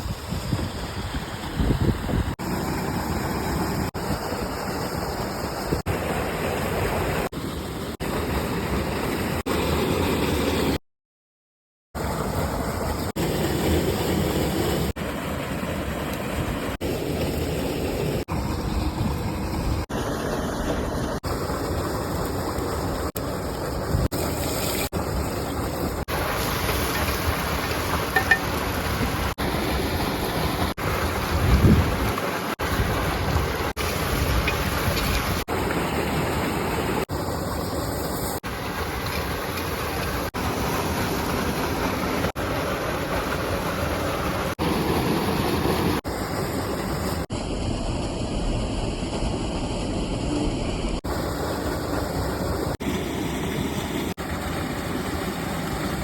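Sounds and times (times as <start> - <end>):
rushing water: 0.0 - 10.8, 12.0 - 56.0.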